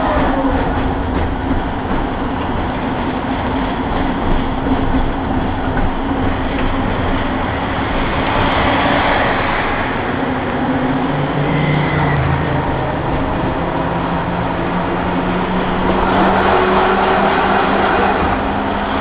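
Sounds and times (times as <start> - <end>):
tram wheels rolling on rails: 0.0 - 19.0.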